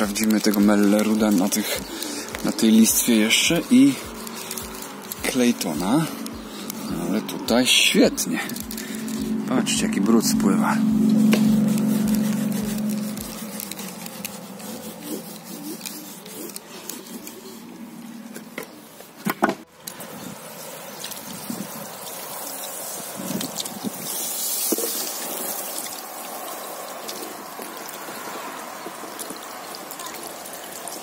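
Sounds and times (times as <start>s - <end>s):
hose spray hissing on a wall: 0.0s - 9.4s, 10.4s - 19.2s, 19.8s - 31.0s
water trickling down a panel: 0.0s - 9.4s, 11.0s - 17.6s, 19.8s - 31.0s.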